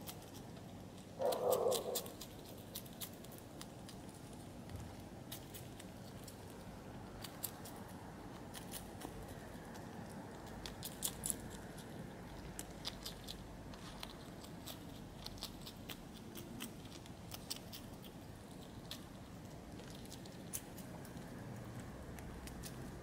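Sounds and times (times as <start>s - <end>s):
hedgehog chewing crunchily: 0.0s - 23.0s.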